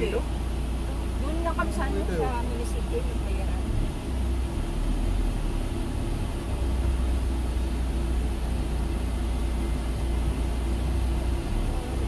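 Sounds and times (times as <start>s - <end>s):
road and engine rumble inside van: 0.0s - 12.0s.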